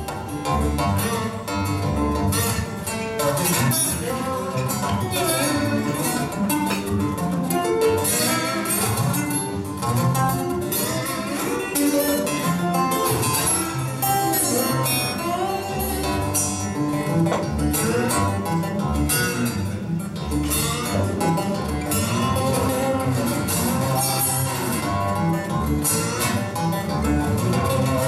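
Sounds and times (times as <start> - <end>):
fingerpicked acoustic guitar: 0.0 - 28.0.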